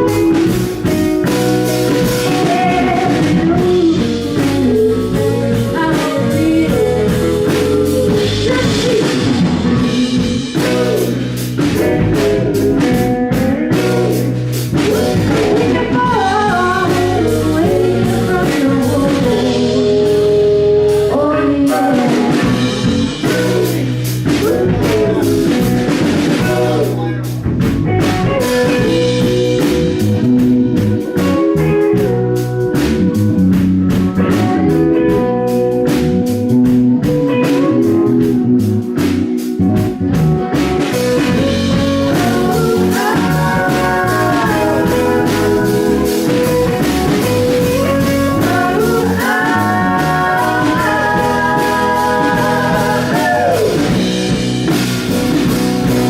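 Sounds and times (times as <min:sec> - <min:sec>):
person singing: 0:00.0 - 0:27.4, 0:28.2 - 0:54.4
live band playing: 0:00.0 - 0:56.0.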